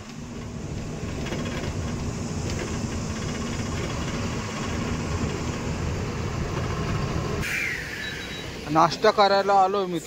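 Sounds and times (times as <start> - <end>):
road rumble: 0.0 - 10.0
truck engine drone: 0.0 - 10.0.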